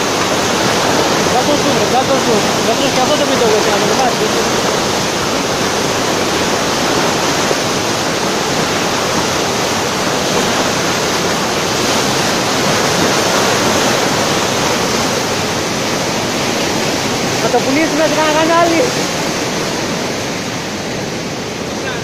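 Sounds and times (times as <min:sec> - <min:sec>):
river torrent rushing: 0:00.0 - 0:22.0.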